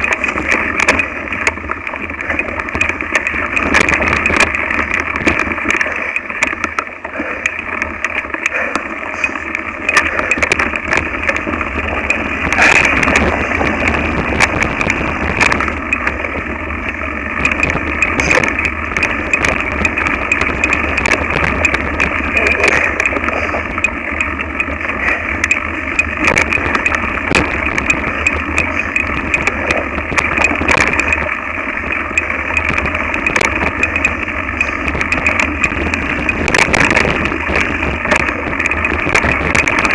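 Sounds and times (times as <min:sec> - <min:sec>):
mountain bike rattling over dirt: 0:00.0 - 0:39.9.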